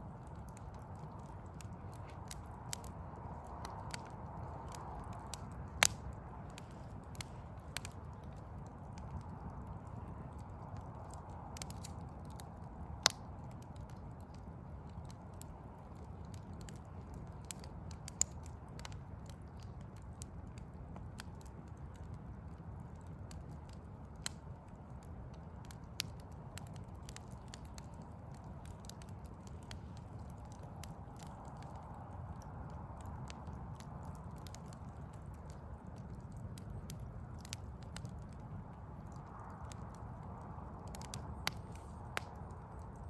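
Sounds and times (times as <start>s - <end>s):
low city rumble: 0.0s - 43.0s
wood fire crackling and popping: 0.0s - 43.0s.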